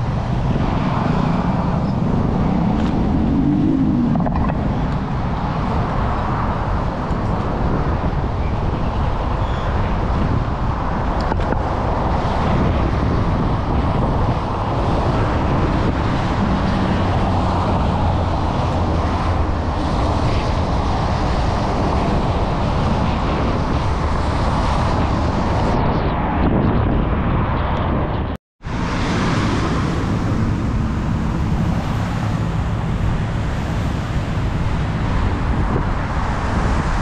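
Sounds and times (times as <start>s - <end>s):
road traffic: 0.0s - 37.0s
wind on microphone: 0.0s - 37.0s.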